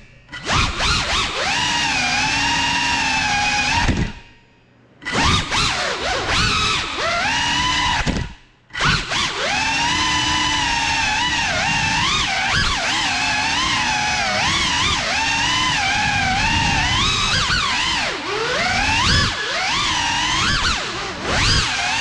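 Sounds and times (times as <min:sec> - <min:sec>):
drone motors and propellers whining: 0:00.0 - 0:04.4, 0:05.0 - 0:22.0.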